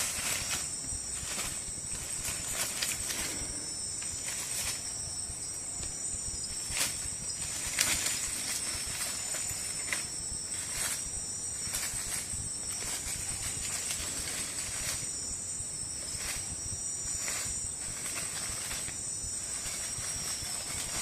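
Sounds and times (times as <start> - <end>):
crackles and rustles: 0.0 - 21.0
night insects chorus: 0.0 - 21.0.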